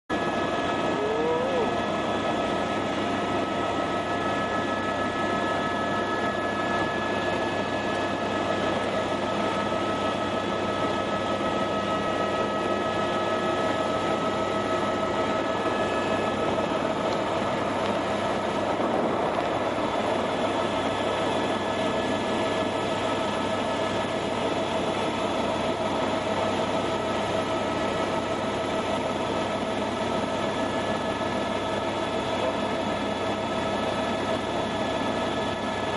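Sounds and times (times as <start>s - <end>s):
helicopter engine drone: 0.1s - 35.9s.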